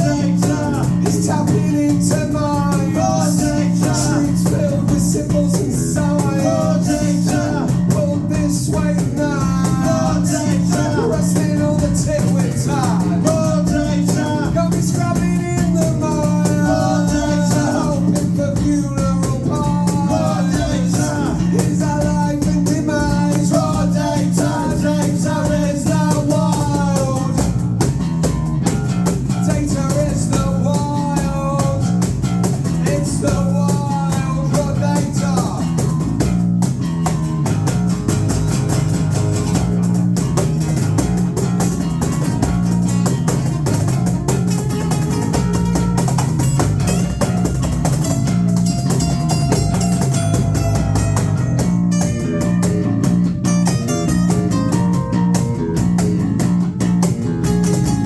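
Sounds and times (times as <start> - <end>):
live rock band playing: 0.0 - 58.0
melodic lead guitar line: 0.0 - 58.0.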